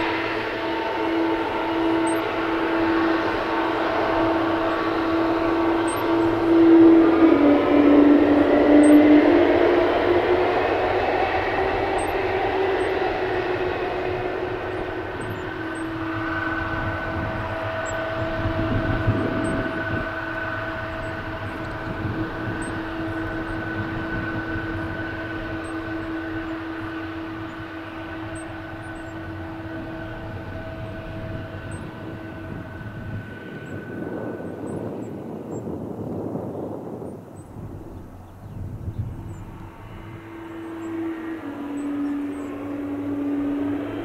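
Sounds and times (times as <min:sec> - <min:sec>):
jet engines whining: 0:00.0 - 0:44.0
low rumble: 0:00.0 - 0:44.0.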